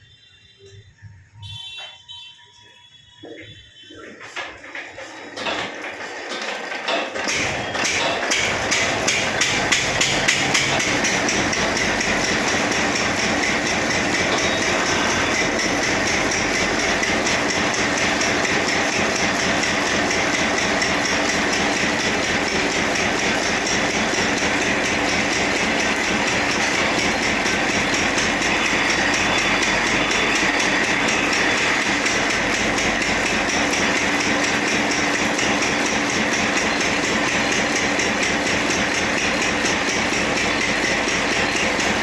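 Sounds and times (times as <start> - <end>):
drilling rig hammering: 4.4 - 42.0.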